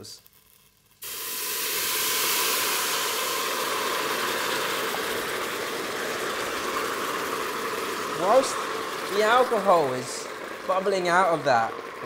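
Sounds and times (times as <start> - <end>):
liquid sizzling in a hot pot: 0.0 - 12.0.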